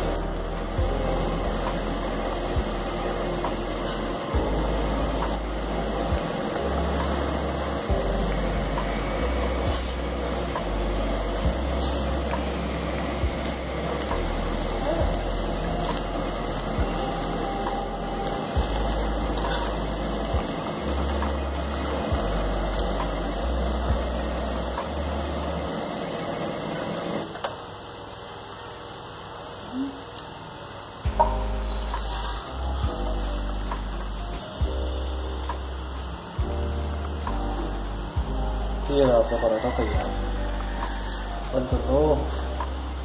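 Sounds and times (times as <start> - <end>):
flatbread sizzling on a pan: 0.0 - 43.0.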